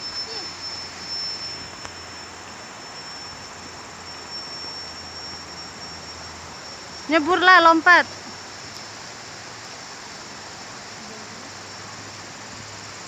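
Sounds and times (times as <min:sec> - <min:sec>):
insect high-pitched buzz: 0:00.0 - 0:13.0
river flowing: 0:00.0 - 0:13.0.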